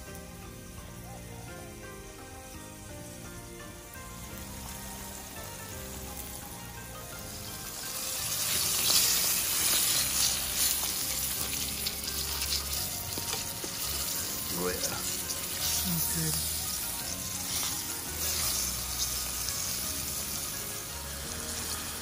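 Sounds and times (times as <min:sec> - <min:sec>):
background music: 0:00.0 - 0:22.0
fish sizzling in hot oil: 0:00.0 - 0:22.0.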